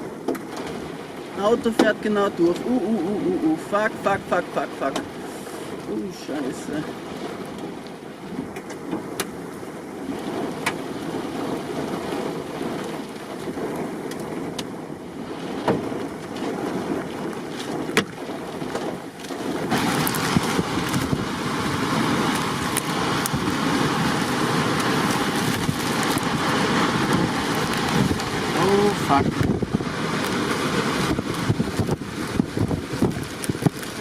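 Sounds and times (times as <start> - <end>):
strong wind buffeting microphone: 2.4 - 34.0.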